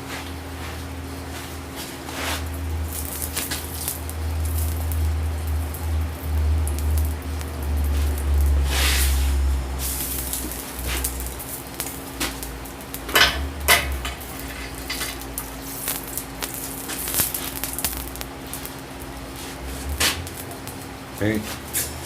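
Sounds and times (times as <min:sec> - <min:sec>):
hot iron sizzling: 0:00.6 - 0:22.0.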